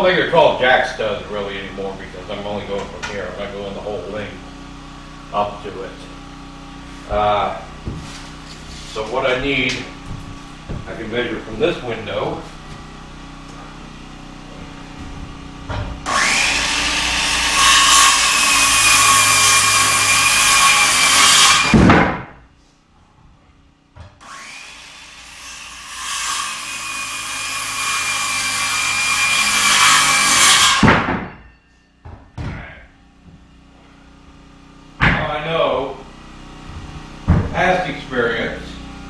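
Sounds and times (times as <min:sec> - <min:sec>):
power saw cutting wood: 0:00.0 - 0:22.4, 0:24.2 - 0:31.5, 0:33.5 - 0:39.0.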